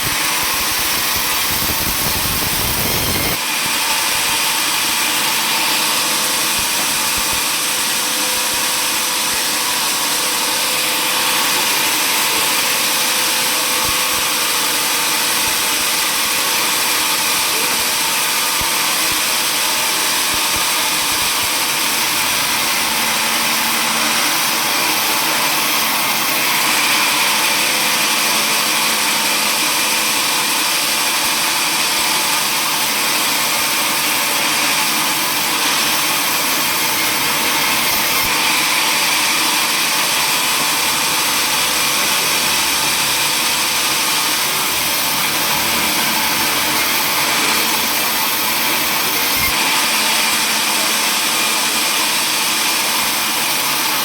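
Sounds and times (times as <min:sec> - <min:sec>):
table saw running: 0:00.0 - 0:54.0.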